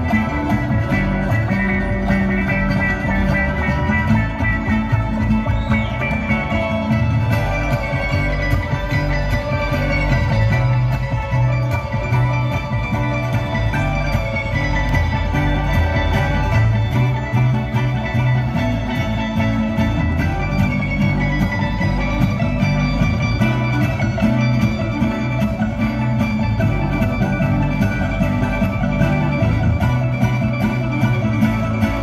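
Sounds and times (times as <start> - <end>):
banjo picking: 0.0 - 32.0
fiddle: 0.0 - 32.0
upright bass: 0.0 - 32.0.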